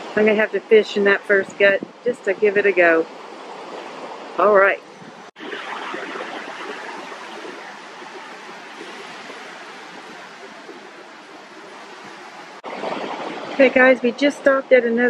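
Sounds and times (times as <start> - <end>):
surf on sandy beach: 0.0 - 15.0.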